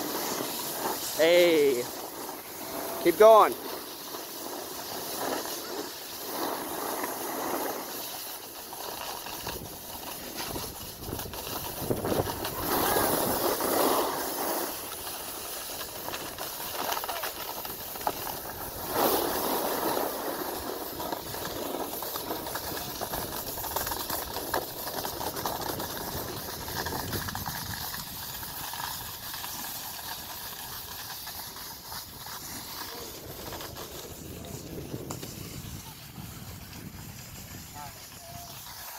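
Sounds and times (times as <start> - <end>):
snowboards scraping icy snow: 0.0 - 38.9.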